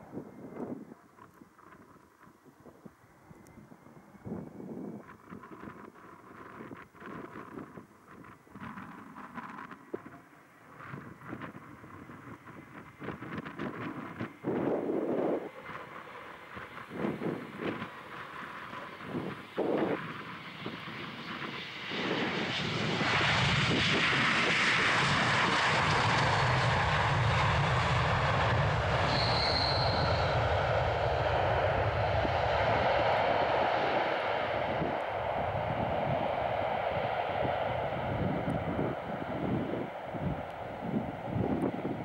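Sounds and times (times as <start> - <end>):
high engine whine: 0.0 - 42.0
jet engines roaring: 7.5 - 42.0.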